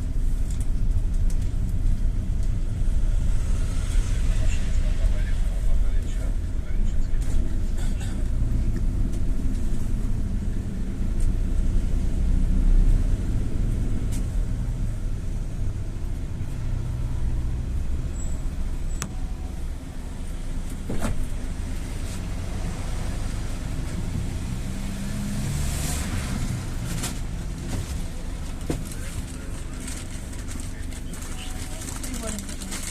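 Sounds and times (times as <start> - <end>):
engine and road rumble: 0.0 - 32.9.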